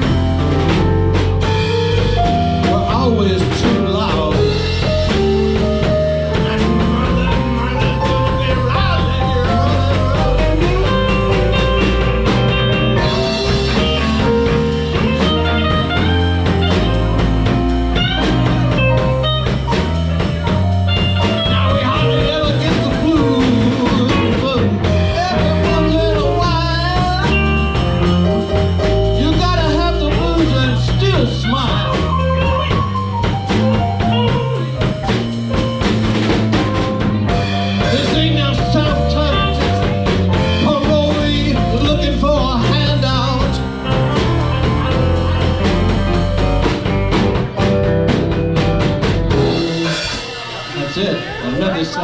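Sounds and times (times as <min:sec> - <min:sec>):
electric guitar with bent notes: 0:00.0 - 0:52.0
live blues band playing: 0:00.0 - 0:52.0.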